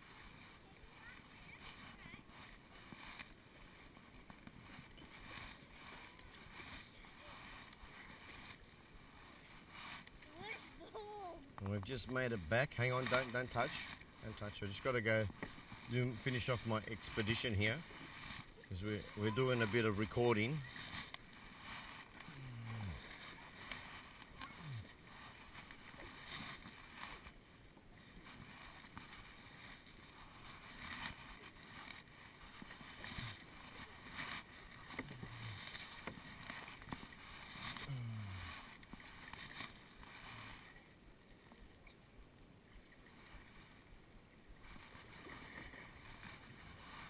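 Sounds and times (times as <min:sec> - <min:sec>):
paddle splashing in water: 0:00.0 - 0:47.0.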